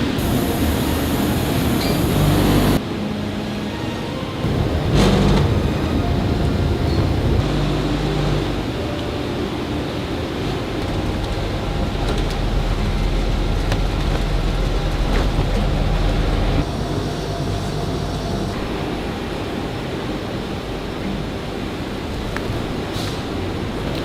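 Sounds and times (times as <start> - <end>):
laundry machinery rumble and hiss: 0.0 - 24.0.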